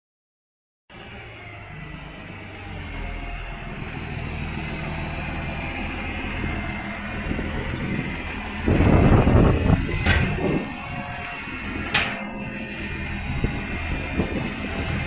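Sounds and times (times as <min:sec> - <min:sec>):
truck engine running: 0:01.0 - 0:15.0.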